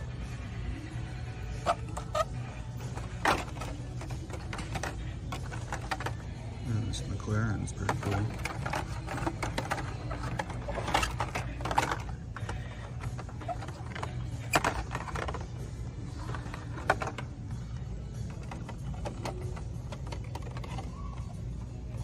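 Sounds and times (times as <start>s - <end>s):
plastic cards clicking and rustling: 1.6s - 6.4s, 7.7s - 22.0s.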